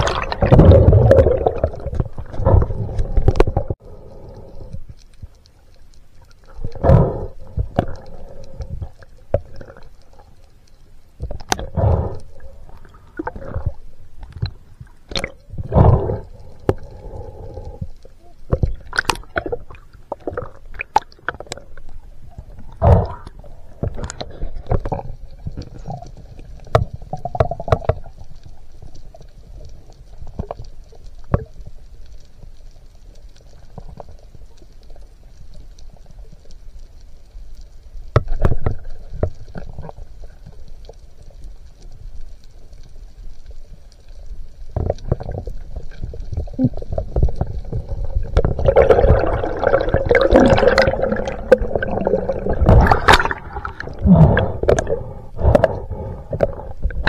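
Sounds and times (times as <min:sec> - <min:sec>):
muffled underwater rumbling and gurgling: 0:00.0 - 0:57.0.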